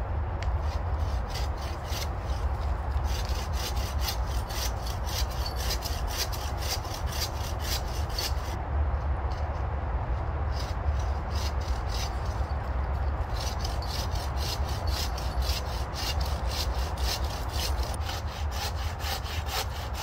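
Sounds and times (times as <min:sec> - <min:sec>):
hand saw cutting branch: 0:00.4 - 0:08.6, 0:10.5 - 0:12.5, 0:13.1 - 0:20.0.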